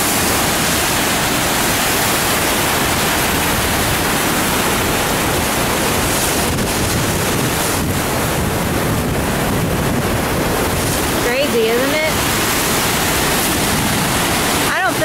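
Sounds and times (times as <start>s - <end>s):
water rushing through dam spillway: 0.0s - 15.0s.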